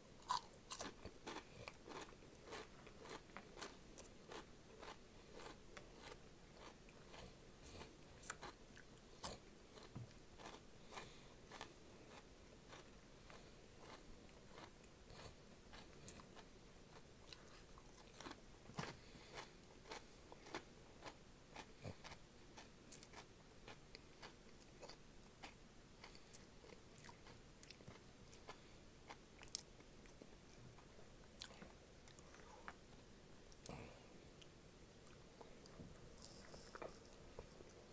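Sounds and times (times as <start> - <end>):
person chewing crunchy food: 0.2 - 30.6, 35.0 - 37.9.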